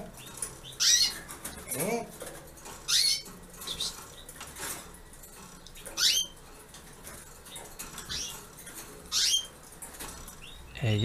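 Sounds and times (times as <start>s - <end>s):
canary calling: 0.0s - 2.2s, 2.8s - 4.8s, 5.6s - 6.8s, 7.5s - 11.0s.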